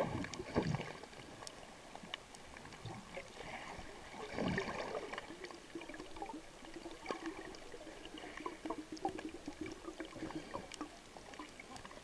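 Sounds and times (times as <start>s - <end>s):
underwater clicks and crackles: 0.0s - 12.0s.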